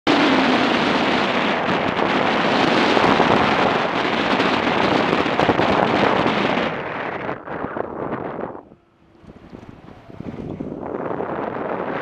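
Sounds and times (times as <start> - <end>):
wind rushing over microphone: 0.1 - 12.0.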